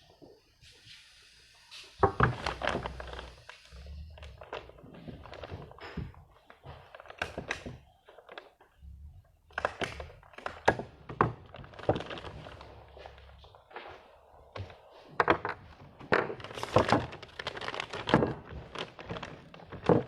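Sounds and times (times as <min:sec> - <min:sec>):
objects knocking and thudding: 0:02.0 - 0:03.3, 0:04.2 - 0:13.6, 0:14.5 - 0:20.0.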